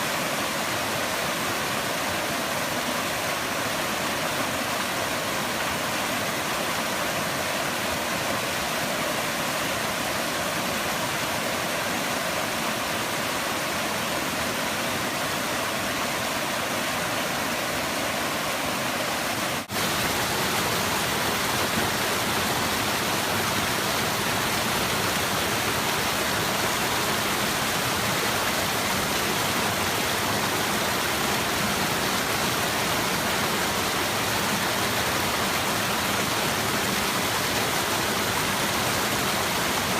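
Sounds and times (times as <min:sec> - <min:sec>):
water falling and rushing: 0:00.0 - 0:39.9.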